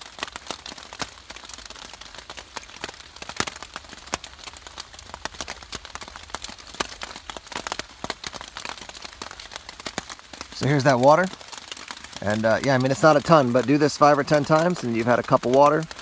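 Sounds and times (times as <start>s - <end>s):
rain hiss: 0.0s - 16.0s
water dripping into metal tin: 0.0s - 16.0s.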